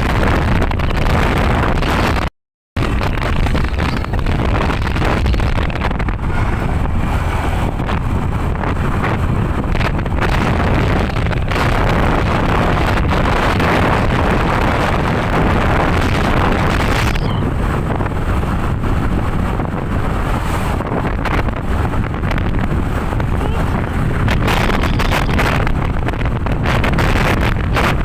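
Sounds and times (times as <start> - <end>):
vehicle engine and road noise: 0.0 - 28.0
wind buffeting microphone: 0.0 - 28.0.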